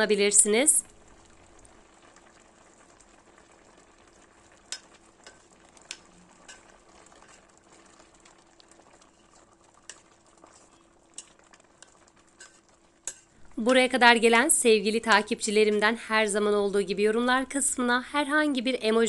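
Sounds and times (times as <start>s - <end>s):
jam bubbling in a pot: 0.0s - 17.9s.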